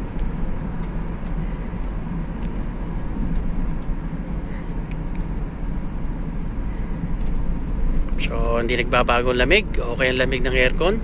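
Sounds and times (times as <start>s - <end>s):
tyres on the road: 0.0s - 11.0s
van engine low rumble: 0.0s - 11.0s.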